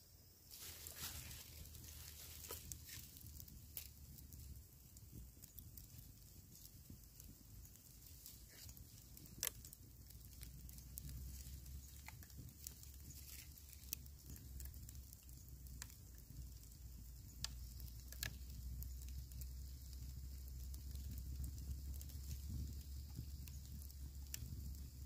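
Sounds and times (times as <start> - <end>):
campfire crackling: 0.1 - 25.0
sharp fire pops: 0.5 - 25.0
small ticks: 0.6 - 25.0.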